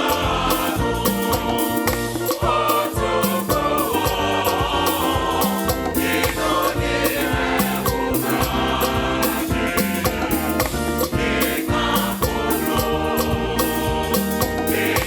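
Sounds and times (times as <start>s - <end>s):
band accompaniment: 0.0s - 15.0s
gospel choir singing: 0.0s - 15.0s
steady drum beat: 0.0s - 15.0s.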